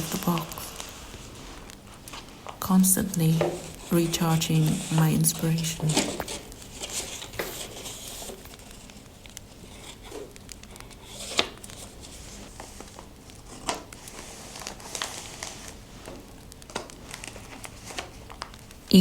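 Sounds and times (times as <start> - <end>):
paper rustling and crinkling: 0.0 - 18.9
fire crackling: 0.0 - 19.0.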